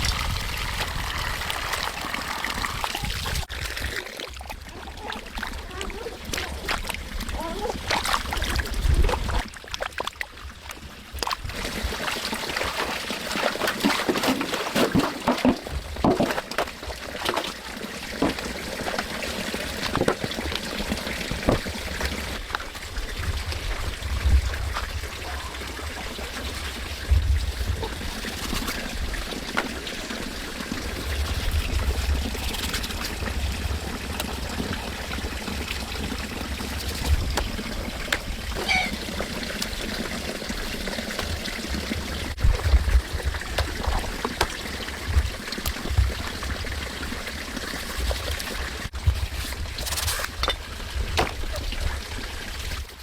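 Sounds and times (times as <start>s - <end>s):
water trickling and pouring: 0.0s - 53.0s.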